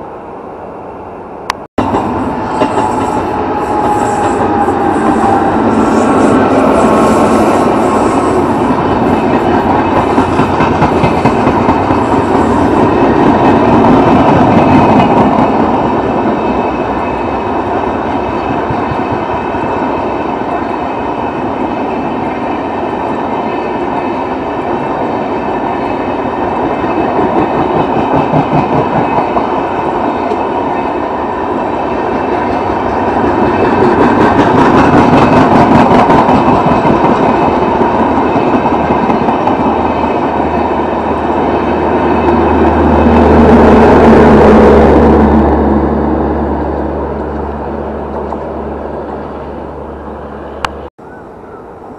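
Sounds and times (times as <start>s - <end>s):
train wheels on rails: 1.2s - 50.9s.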